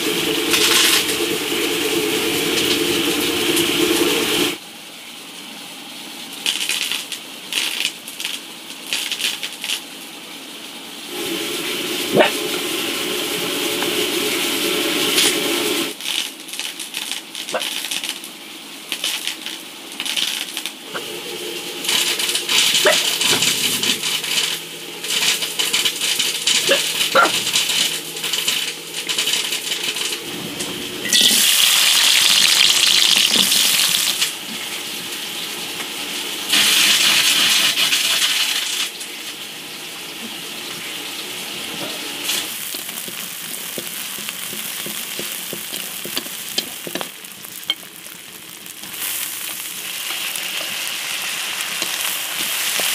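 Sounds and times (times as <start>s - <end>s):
corn frying in oil: 0.0s - 52.9s.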